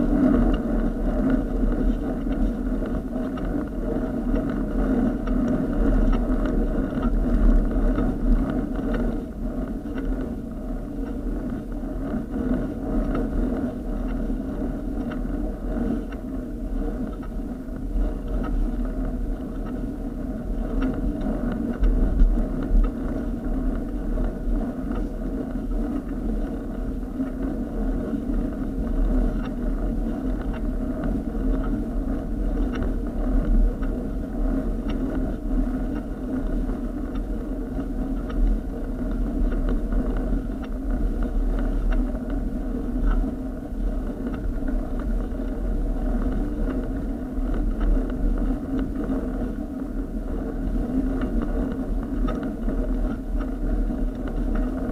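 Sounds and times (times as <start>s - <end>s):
bicycle tyres rumbling on tarmac: 0.0s - 54.9s
wind on microphone: 0.0s - 54.9s.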